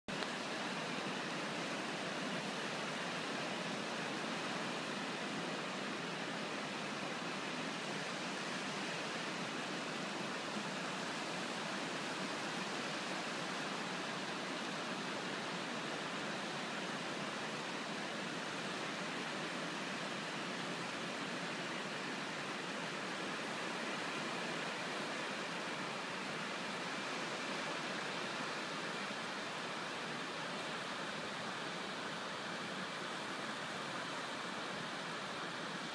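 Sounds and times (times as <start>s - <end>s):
water rushing: 0.1s - 35.9s.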